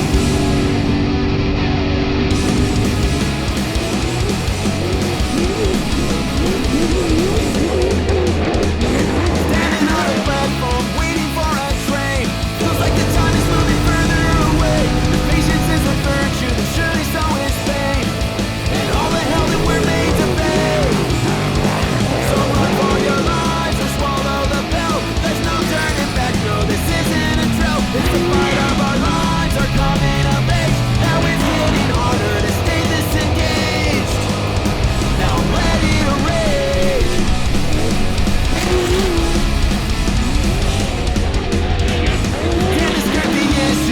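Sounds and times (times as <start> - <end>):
hard rock music with electric guitar: 0.0 - 43.9.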